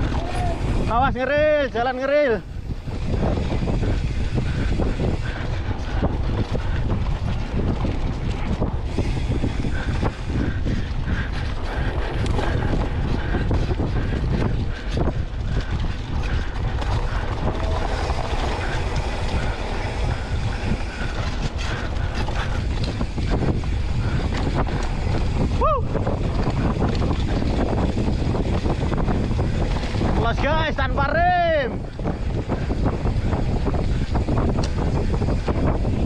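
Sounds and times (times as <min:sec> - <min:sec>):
bike tyre noise and rattling: 0:00.0 - 0:36.0
wind on microphone: 0:00.0 - 0:36.0.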